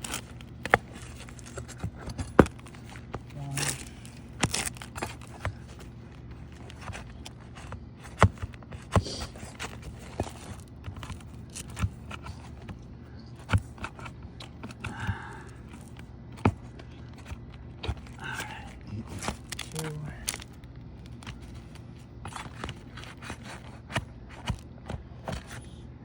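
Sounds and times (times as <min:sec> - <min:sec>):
scraping: 0:00.0 - 0:25.7.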